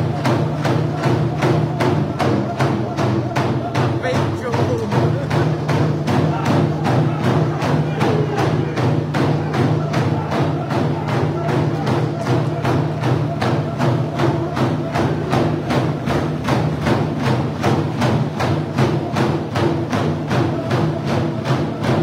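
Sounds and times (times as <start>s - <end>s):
frame drums beaten with sticks: 0.0s - 22.0s.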